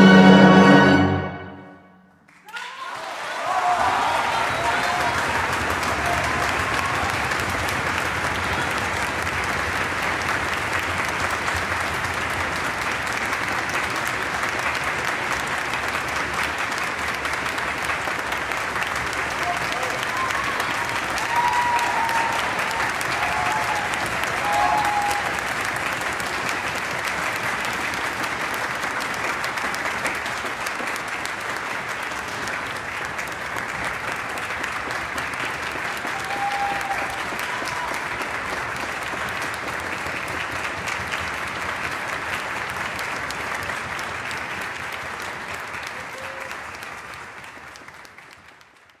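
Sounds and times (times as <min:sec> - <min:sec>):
audience applauding: 0:00.0 - 0:49.0.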